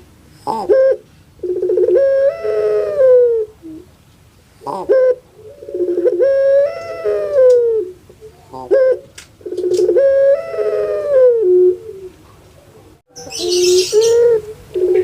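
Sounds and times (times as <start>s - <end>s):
dove cooing: 0.4s - 3.9s, 4.6s - 15.0s.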